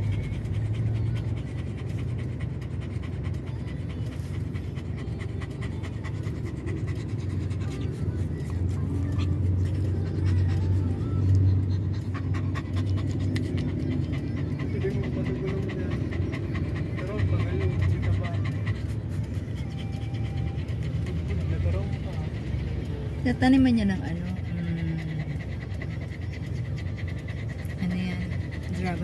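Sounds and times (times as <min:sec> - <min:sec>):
dog panting rapidly: 0:00.0 - 0:29.0.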